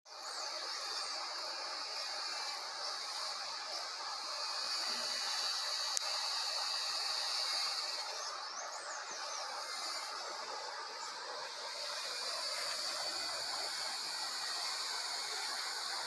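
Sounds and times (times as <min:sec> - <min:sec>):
steady high-pitched hiss: 0:00.1 - 0:16.0.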